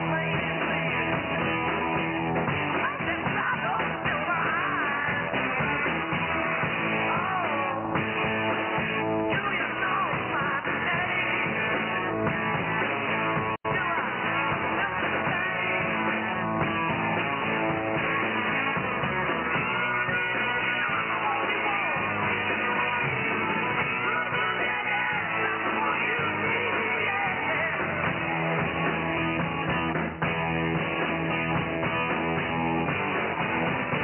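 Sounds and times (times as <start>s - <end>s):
rock music with guitar and singing: 0.0s - 34.0s.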